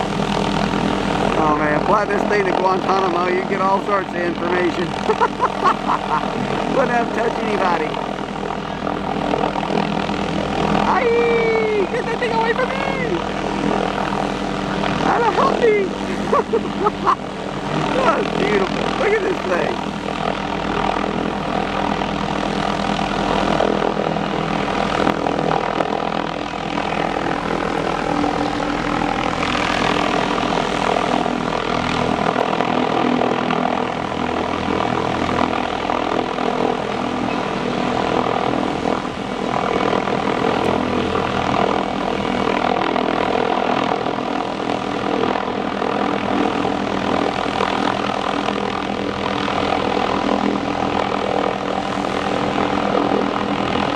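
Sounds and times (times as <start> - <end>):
helicopter drone: 0.0 - 53.9.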